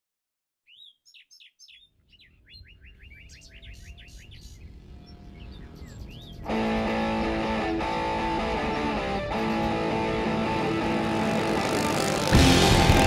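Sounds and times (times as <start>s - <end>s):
birds chirping and singing: 0.7s - 12.4s.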